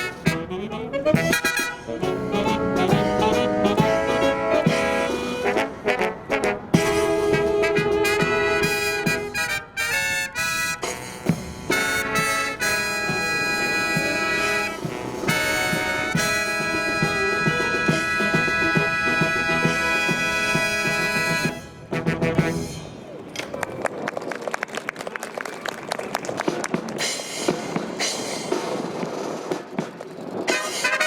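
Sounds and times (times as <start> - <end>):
brass marching band playing: 0.0 - 23.2, 26.3 - 31.0.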